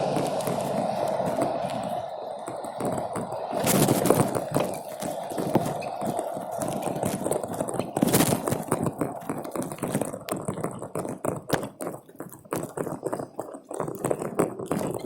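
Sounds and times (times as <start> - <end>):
close-up taps and knocks: 0.1 - 15.0.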